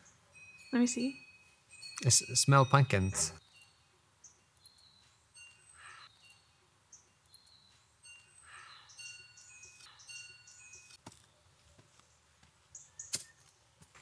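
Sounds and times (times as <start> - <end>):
small birds chirping: 0.0 - 13.8.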